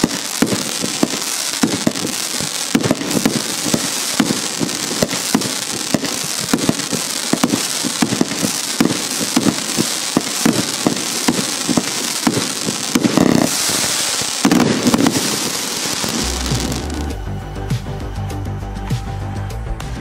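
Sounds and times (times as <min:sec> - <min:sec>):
firework shots: 0:00.0 - 0:17.2
firework stars crackling: 0:00.0 - 0:17.4.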